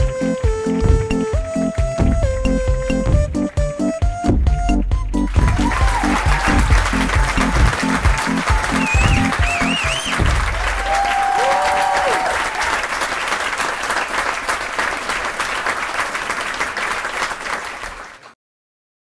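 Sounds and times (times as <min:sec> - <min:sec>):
audience applauding and cheering: 0:00.0 - 0:18.4.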